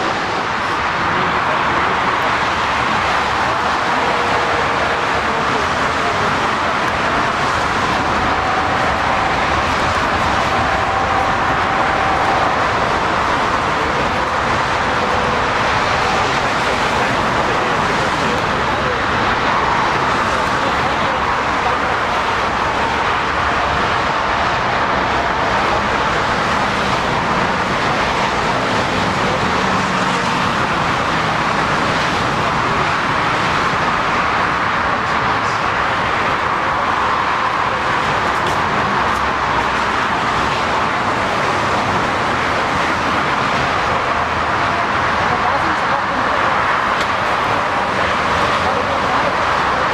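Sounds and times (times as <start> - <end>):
jet engines running: 0.0 - 49.9.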